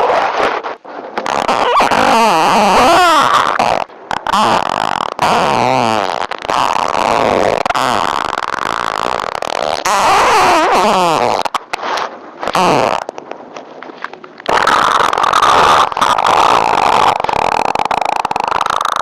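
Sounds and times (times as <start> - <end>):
farts: 1.2 - 11.7, 12.4 - 13.1, 14.5 - 19.0.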